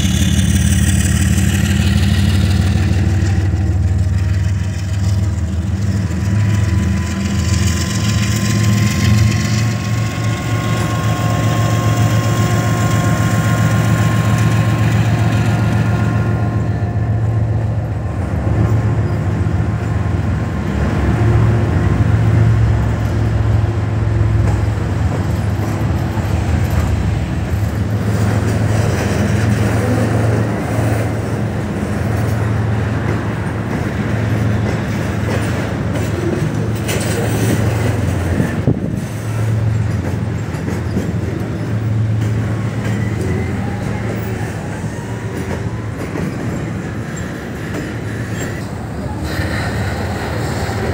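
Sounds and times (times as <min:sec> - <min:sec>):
freight train rumbling on rails: 0:00.0 - 0:50.9.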